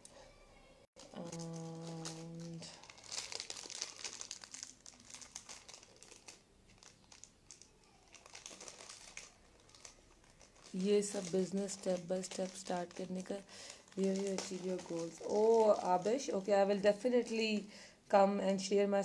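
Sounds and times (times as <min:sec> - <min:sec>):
packaging crinkling: 0:01.0 - 0:17.4.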